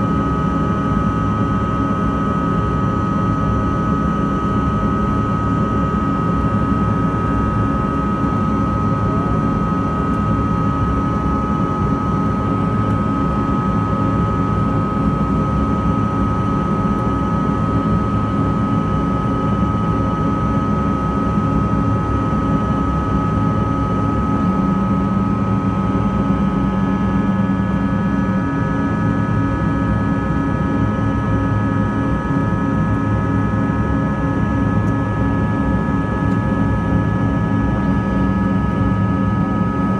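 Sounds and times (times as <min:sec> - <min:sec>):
jet engine rumble and whine: 0:00.0 - 0:39.9.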